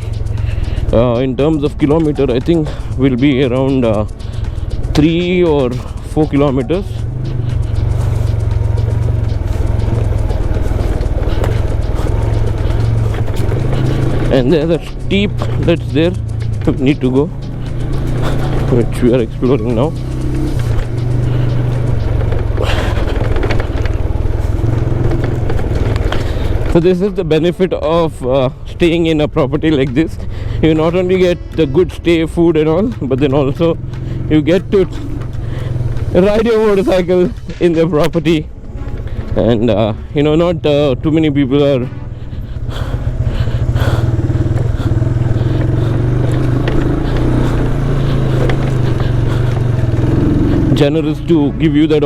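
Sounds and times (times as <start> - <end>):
motorcycle engine under load: 0.0 - 52.0.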